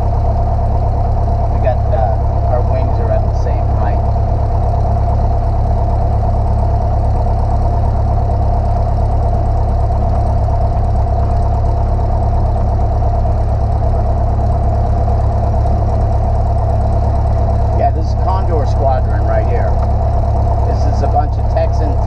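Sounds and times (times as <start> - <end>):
airplane piston engine drone: 0.0 - 22.0.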